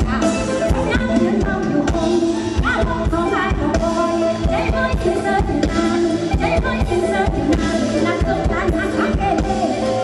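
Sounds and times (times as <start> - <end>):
live band music: 0.0 - 10.0
woman singing: 0.0 - 10.0.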